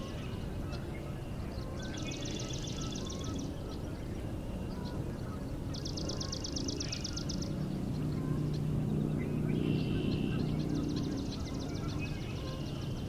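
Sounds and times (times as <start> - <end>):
other birds calling: 0.0 - 13.0.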